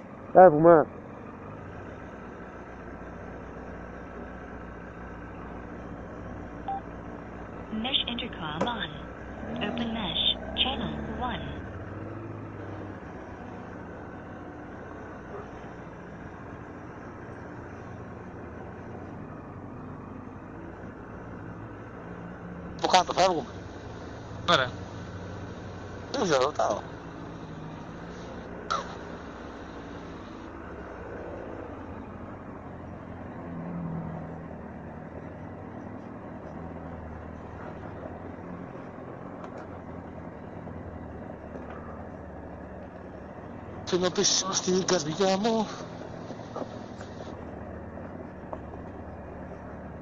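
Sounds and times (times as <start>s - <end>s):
motorcycle engines idling: 0.0s - 33.3s, 34.4s - 50.0s.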